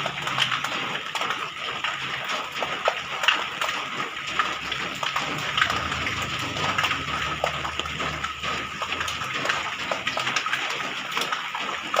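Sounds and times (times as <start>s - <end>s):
rain falling on a terrace: 0.0s - 12.0s.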